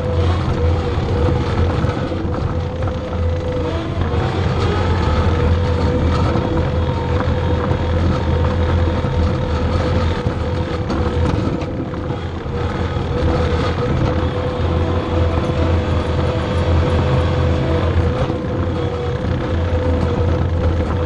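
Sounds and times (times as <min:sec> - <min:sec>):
diesel engine rumble: 0:00.0 - 0:21.0
steady whine: 0:00.0 - 0:21.0.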